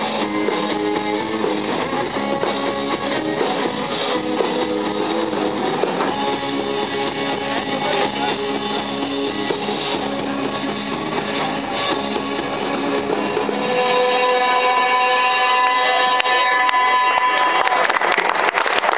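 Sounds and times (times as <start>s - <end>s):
strummed electric guitars: 0.0s - 17.7s
live rock band playing: 0.0s - 18.1s.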